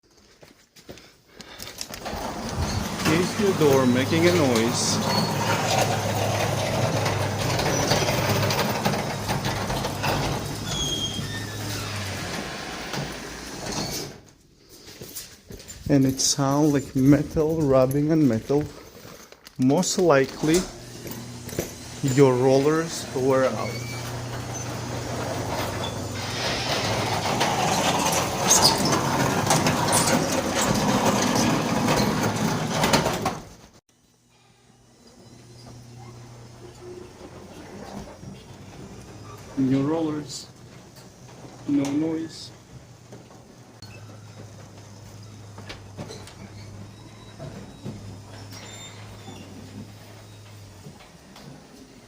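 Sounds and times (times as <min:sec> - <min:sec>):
garage door opener motor hum: 0:01.8 - 0:14.2, 0:19.8 - 0:33.8, 0:34.7 - 0:52.0
garage door grinding rattle: 0:01.8 - 0:14.3, 0:19.7 - 0:33.8, 0:35.3 - 0:52.0
rollers squeaking: 0:01.8 - 0:14.3, 0:15.6 - 0:33.8, 0:34.8 - 0:52.0.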